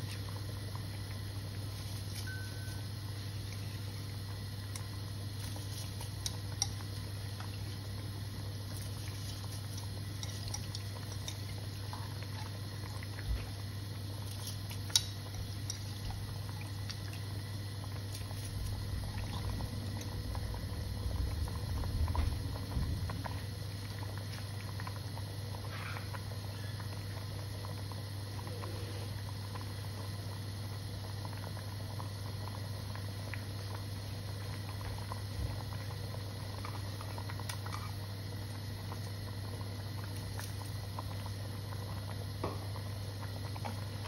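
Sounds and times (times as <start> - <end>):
pot of water bubbling: 0.0 - 44.0
steady low hum: 0.0 - 44.0.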